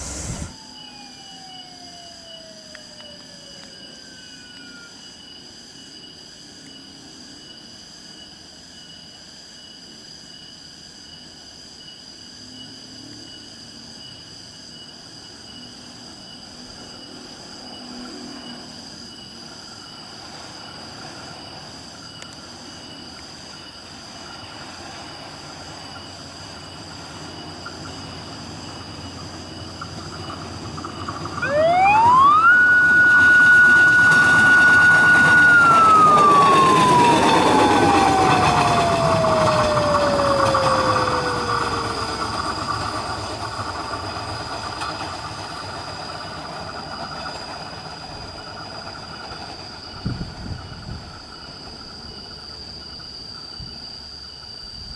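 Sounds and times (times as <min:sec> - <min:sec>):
passenger train rumble: 0:00.0 - 0:09.4, 0:13.3 - 0:54.9
high whine of train: 0:00.0 - 0:54.9.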